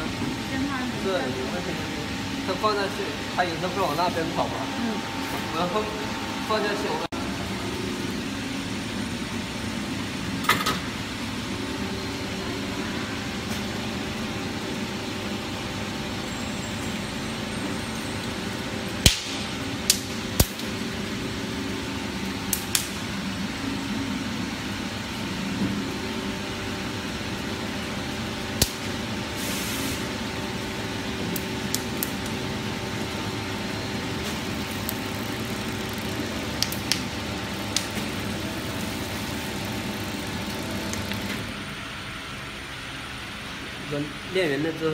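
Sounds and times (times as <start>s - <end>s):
mixing mill motor humming: 0.0s - 29.4s, 30.0s - 43.7s.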